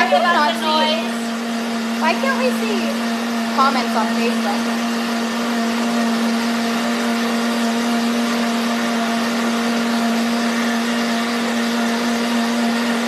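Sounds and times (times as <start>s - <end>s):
blender running: 0.0s - 13.0s.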